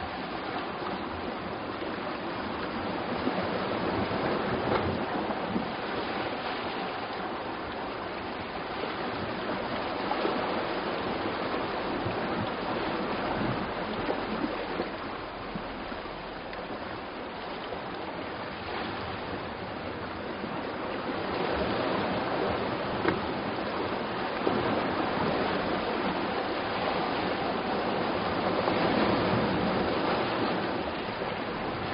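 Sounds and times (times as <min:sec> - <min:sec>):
sea waves rushing on shore: 0:00.0 - 0:31.9.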